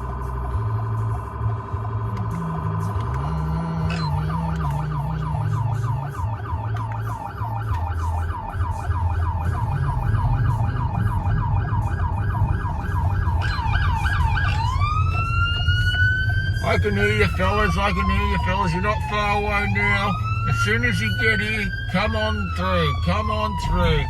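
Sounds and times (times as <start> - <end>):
emergency vehicle siren: 0.0 - 24.0
steady low drone: 0.0 - 24.0.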